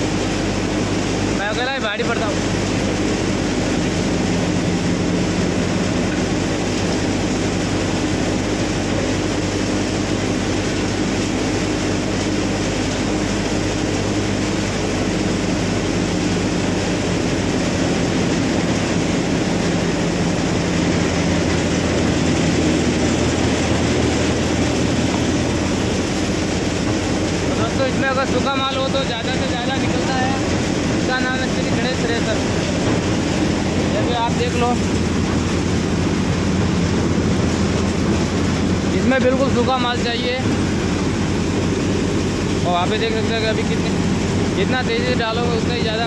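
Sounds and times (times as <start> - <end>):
threshing machine humming: 0.0 - 46.0.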